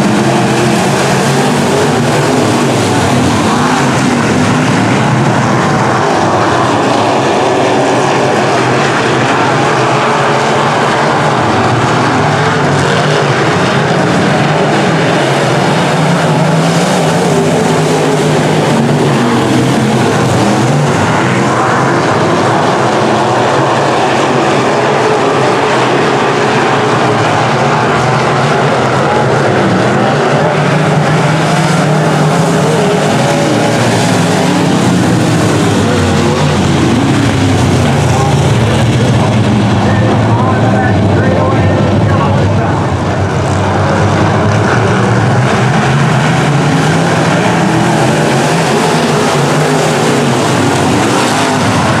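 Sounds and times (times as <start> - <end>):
race car engines roaring: 0.0 - 52.0.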